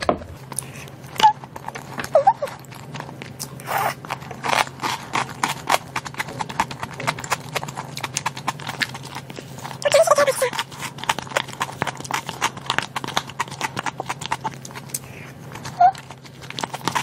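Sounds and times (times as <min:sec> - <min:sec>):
chewing and lip smacking: 0:00.0 - 0:17.0.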